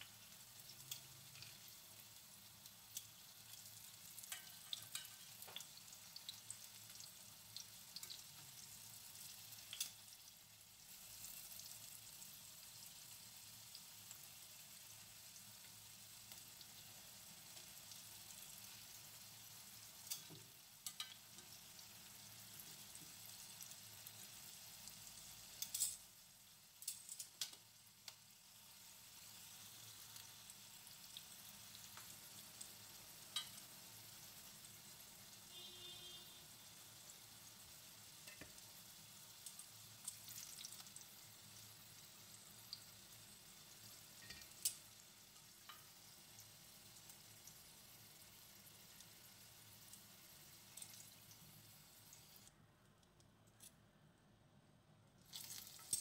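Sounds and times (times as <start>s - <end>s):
food sizzling in oil: 0.0s - 52.5s, 55.2s - 56.0s.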